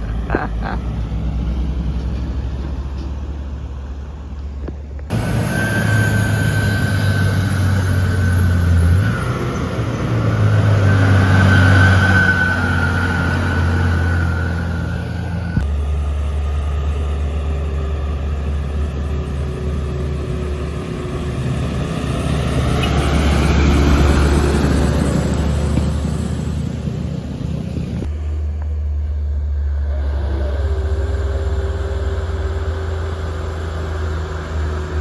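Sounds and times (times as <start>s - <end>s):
diesel truck engines labouring: 0.0s - 35.0s.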